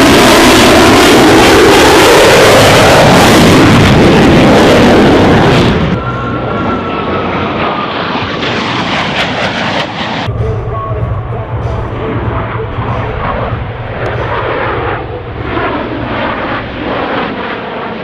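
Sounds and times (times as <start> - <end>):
aircraft engine whine: 0.0 - 18.0
aircraft roaring past low: 0.0 - 18.0.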